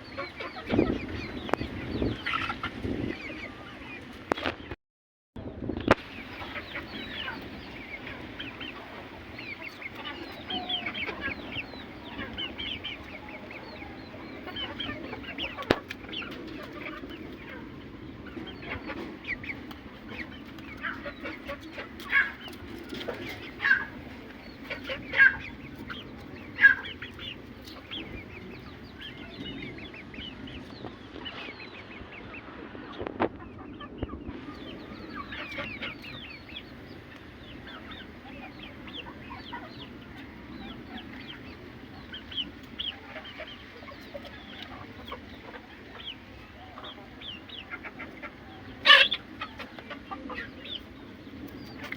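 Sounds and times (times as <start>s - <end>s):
chickens clucking: 0.0s - 4.8s, 5.6s - 51.9s.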